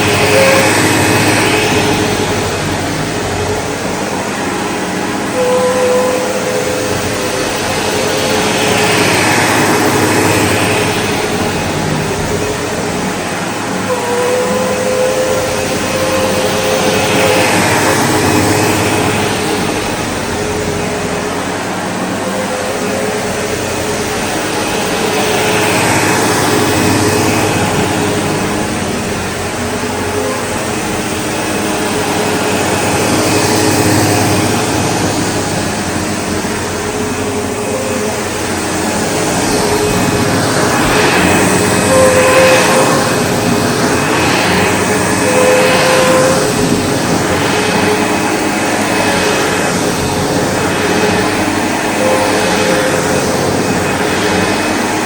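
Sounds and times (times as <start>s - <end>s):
upright vacuum cleaner running: 0.0s - 55.0s.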